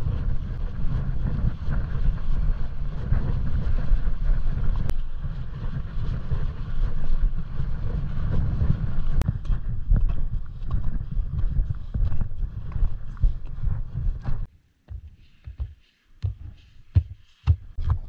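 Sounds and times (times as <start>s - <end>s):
wind buffeting microphone: 0.0s - 14.5s.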